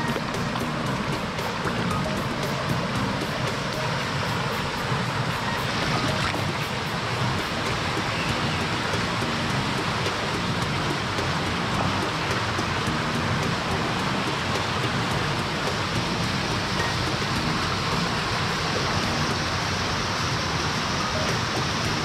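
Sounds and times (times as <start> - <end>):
background music with faint beat: 0.0 - 22.0
rushing flood water: 0.0 - 22.0.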